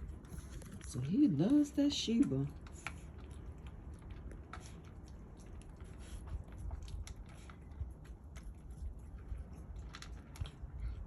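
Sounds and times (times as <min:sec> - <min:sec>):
cat chewing and licking: 0:00.0 - 0:11.0.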